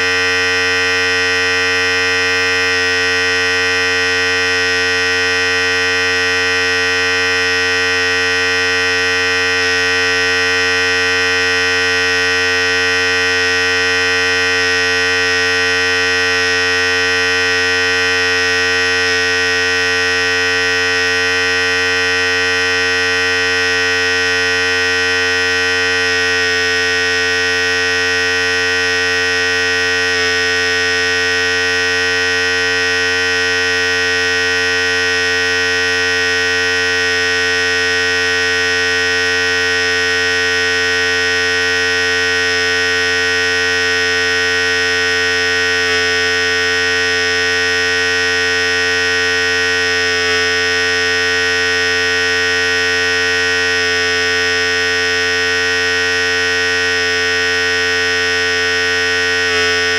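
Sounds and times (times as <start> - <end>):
electric hair clipper humming: 0.0 - 59.9.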